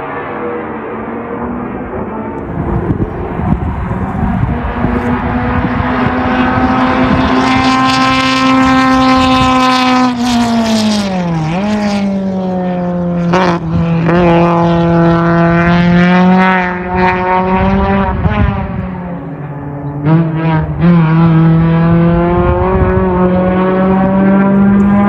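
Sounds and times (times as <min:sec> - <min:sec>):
racing engine at high revs: 0:02.0 - 0:25.0.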